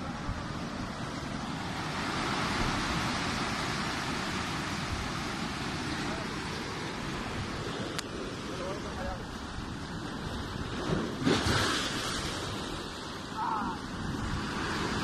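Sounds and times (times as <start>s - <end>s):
surf breaking over rocks: 0.0s - 15.0s
wind buffeting the microphone: 0.0s - 15.0s.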